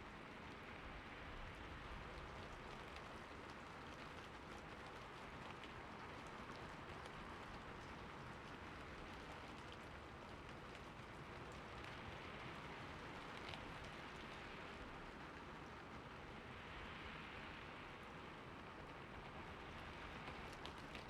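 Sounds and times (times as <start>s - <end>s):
raindrop ticks: 1.8s - 17.0s, 17.9s - 21.0s.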